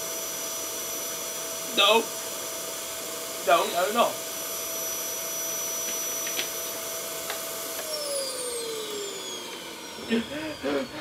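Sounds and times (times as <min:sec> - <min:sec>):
vacuum cleaner whining: 0:00.0 - 0:11.0.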